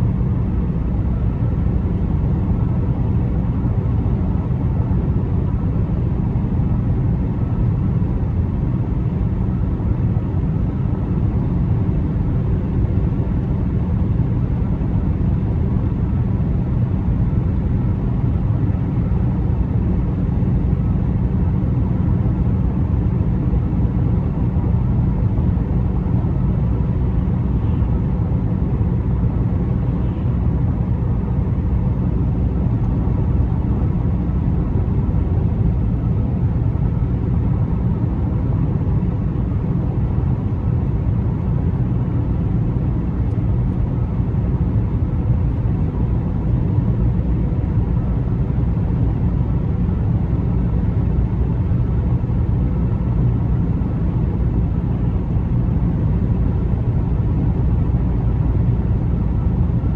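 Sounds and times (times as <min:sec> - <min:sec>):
car driving low rumble: 0:00.0 - 0:59.9.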